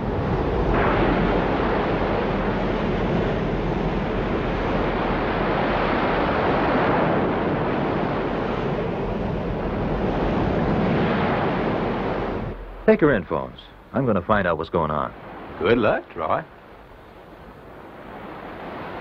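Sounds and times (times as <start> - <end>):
waves surging: 0.0 - 19.0
wind blowing: 0.0 - 19.0.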